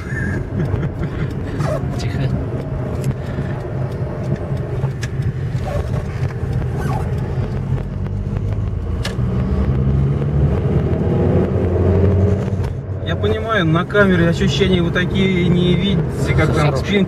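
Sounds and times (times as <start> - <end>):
car engine: 0.0 - 17.0
road noise: 0.0 - 17.0.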